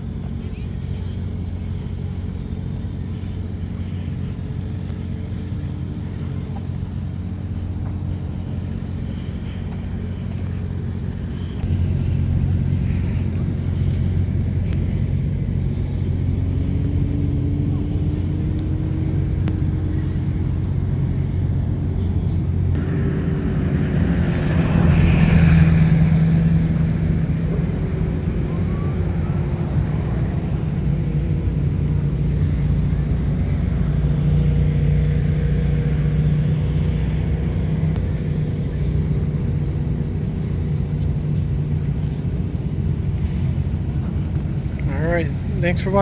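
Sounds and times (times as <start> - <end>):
motor vehicle engines running: 0.0 - 46.0
vehicle passing close: 0.8 - 46.0.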